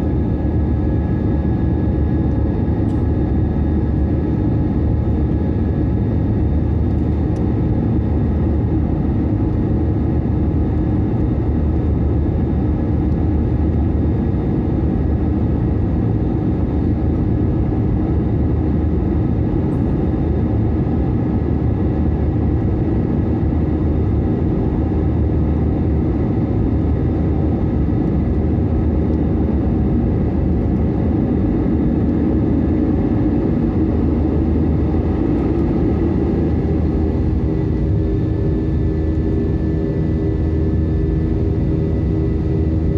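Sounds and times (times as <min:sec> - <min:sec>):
faint steady hums: 0:00.0 - 0:42.9
jet engine cabin drone: 0:00.0 - 0:42.9.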